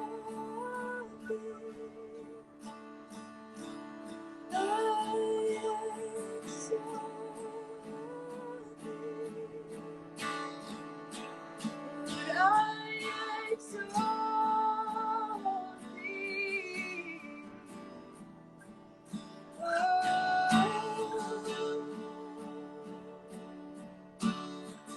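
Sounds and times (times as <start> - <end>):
woman singing: 0.0 - 2.8, 3.6 - 18.3, 19.2 - 24.9
acoustic guitar strumming: 0.0 - 24.9.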